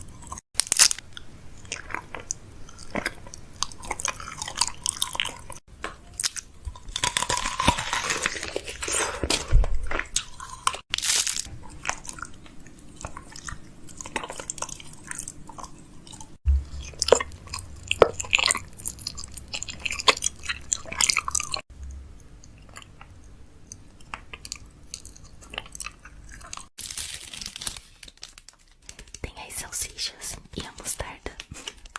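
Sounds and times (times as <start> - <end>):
crunchy snacks crunching: 0.0 - 21.6, 22.5 - 29.2.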